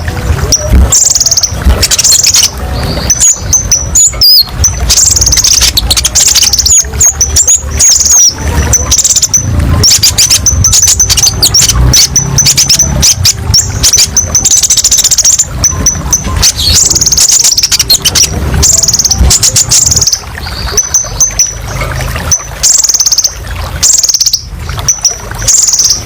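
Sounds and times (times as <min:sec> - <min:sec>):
bird chips and buzzy trills: 0:00.0 - 0:26.0.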